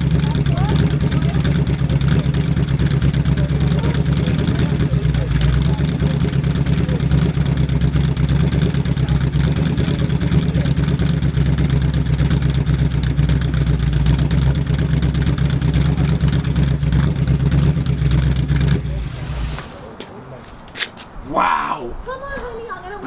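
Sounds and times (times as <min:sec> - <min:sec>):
car engine running: 0:00.0 - 0:20.4.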